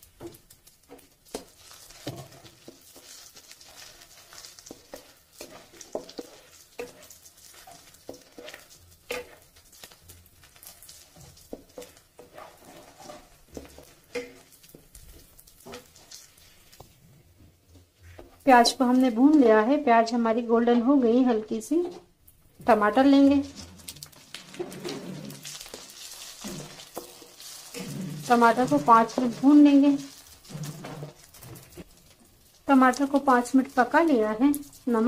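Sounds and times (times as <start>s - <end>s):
food sizzling in oil: 0.0s - 17.0s, 18.2s - 35.0s
wooden spatula scraping a pan: 0.1s - 19.6s, 21.5s - 35.0s.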